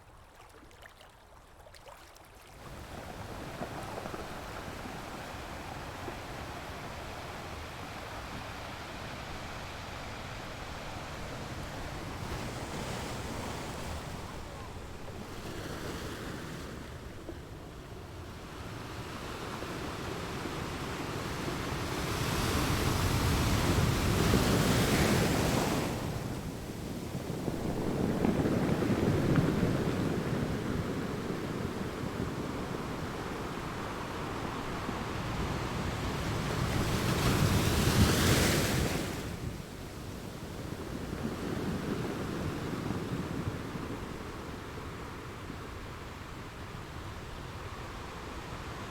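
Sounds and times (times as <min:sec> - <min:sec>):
ocean waves breaking: 0:02.5 - 0:48.9.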